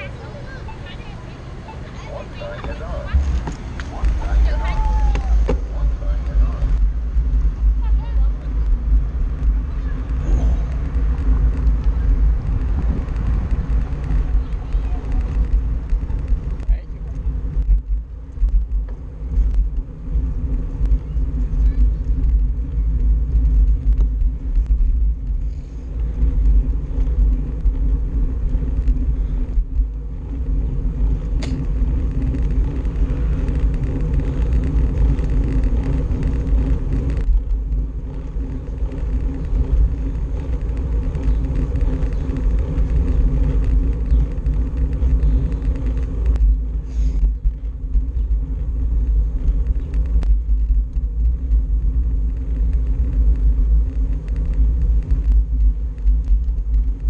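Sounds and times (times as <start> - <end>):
bike riding noise: 0.0 - 57.0
wind buffeting microphone: 0.0 - 57.0.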